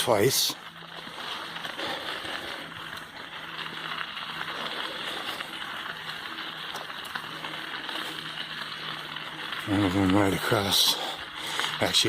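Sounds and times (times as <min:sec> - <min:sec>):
bike tyres rolling over gravel: 0:00.0 - 0:12.0.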